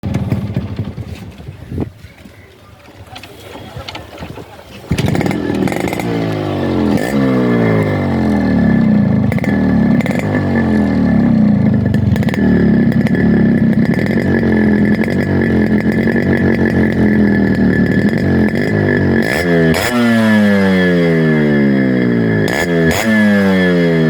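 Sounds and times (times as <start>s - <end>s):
two-stroke motorcycle engine idling: 0.0s - 1.8s, 4.9s - 24.0s.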